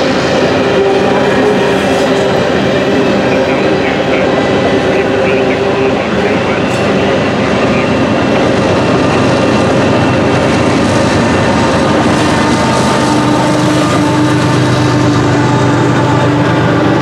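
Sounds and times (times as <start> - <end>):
freight train wheels on rails: 0.0 - 17.0
steady low drone: 0.0 - 17.0.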